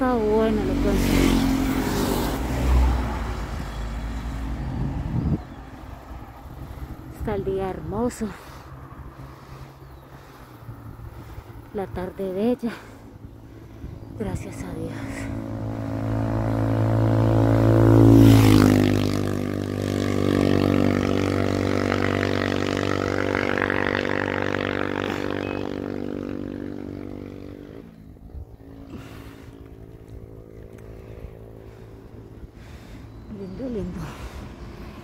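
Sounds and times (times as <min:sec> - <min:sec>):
vehicle passing by: 0:00.0 - 0:35.0.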